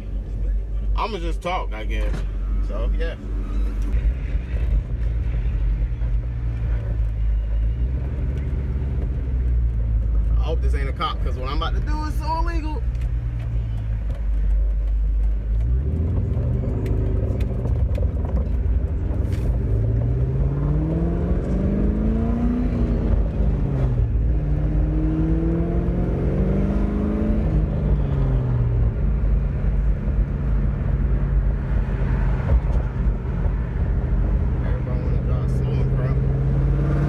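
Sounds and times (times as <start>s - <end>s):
car engine accelerating hard: 3.0s - 37.0s.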